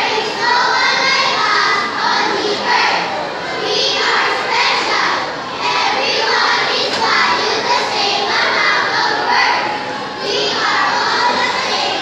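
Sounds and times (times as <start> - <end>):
children's voices in unison: 0.0 - 12.0.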